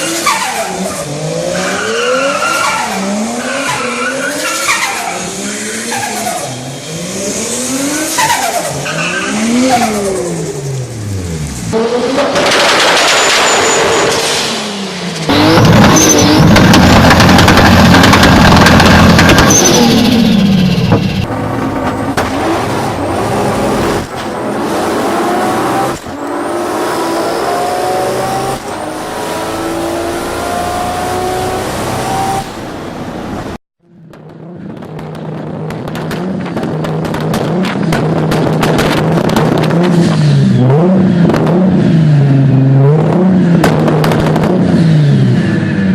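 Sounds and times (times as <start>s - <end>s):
car engine revving and accelerating: 0.0s - 13.2s, 13.8s - 33.6s, 34.7s - 45.9s.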